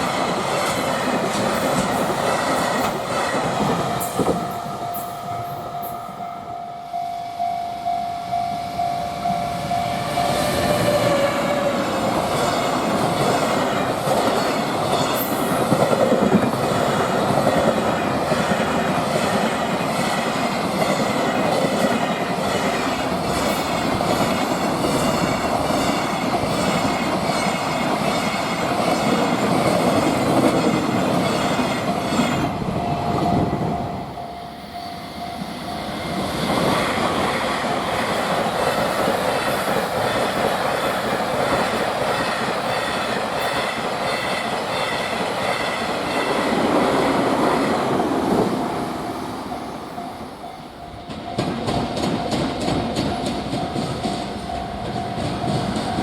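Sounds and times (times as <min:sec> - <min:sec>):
freight train wheels clattering: 0:00.0 - 0:06.0, 0:09.5 - 0:56.0.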